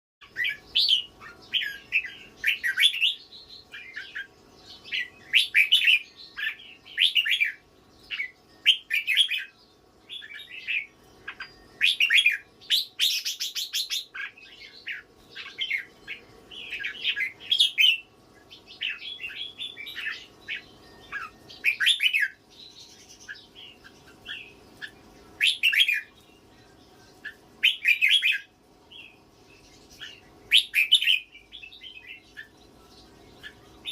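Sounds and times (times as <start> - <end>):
bird chirping: 0.2 - 33.9.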